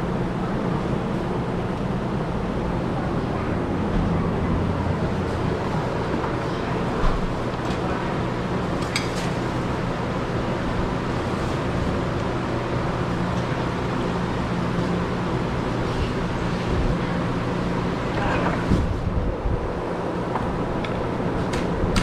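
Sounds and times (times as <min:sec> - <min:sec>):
low mechanical hum with rushing: 0:00.0 - 0:22.0.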